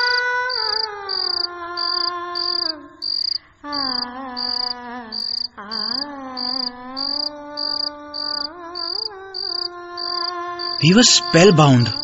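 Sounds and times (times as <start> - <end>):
woman singing slow melody: 0.0 - 11.2
cricket chirping: 0.0 - 12.0.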